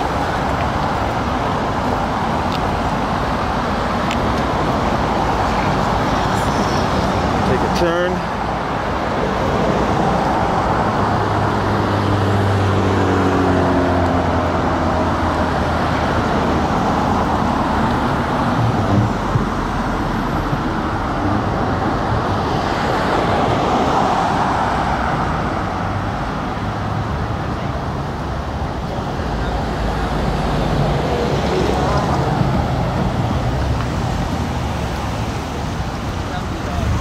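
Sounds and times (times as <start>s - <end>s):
vehicles driving past: 0.0s - 37.0s.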